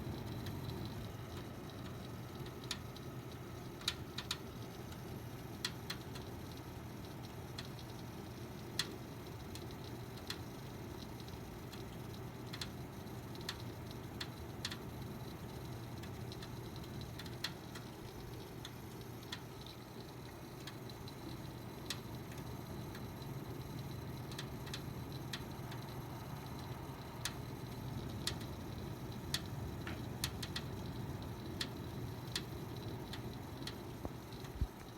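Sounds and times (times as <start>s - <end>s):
computer humming: 0.0s - 34.9s
sharp irregular clicks: 0.2s - 6.4s, 8.8s - 34.9s.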